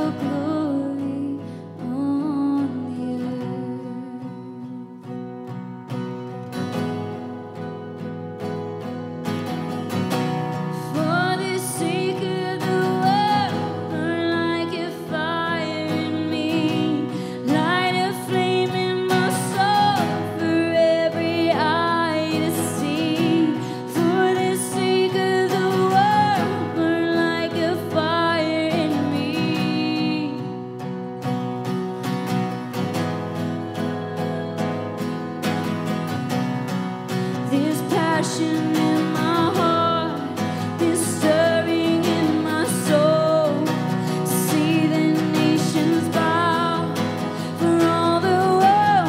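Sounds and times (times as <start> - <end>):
woman singing: 0.0 - 5.9, 9.9 - 49.0
strummed acoustic guitar: 0.0 - 49.0.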